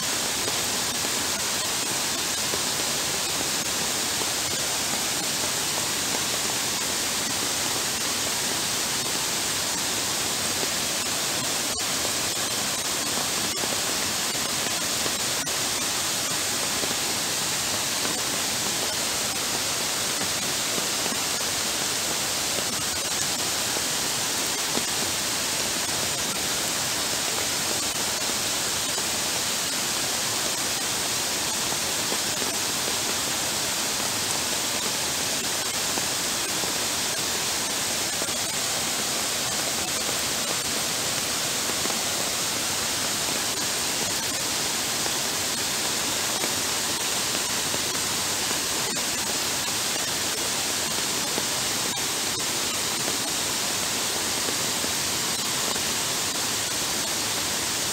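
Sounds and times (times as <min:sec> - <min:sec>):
heavy rain pouring onto water: 0:00.0 - 0:57.9.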